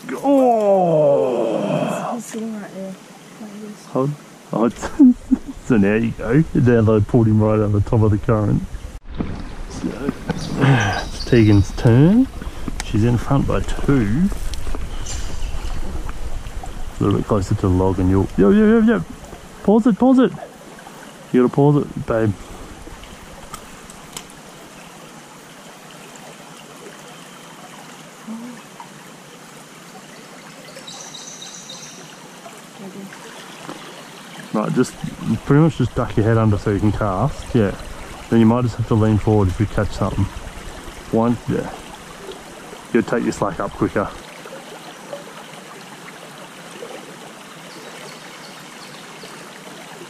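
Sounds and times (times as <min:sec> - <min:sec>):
creek water trickling: 0:00.0 - 0:50.0.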